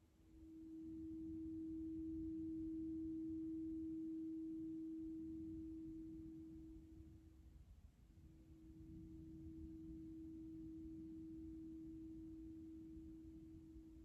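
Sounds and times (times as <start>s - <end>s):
singing bowl steady tone: 0.0s - 14.0s.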